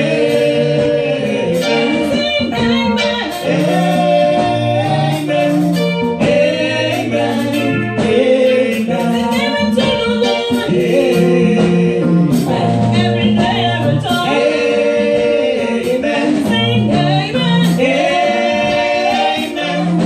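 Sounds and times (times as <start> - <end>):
women singing gospel song: 0.0 - 20.0.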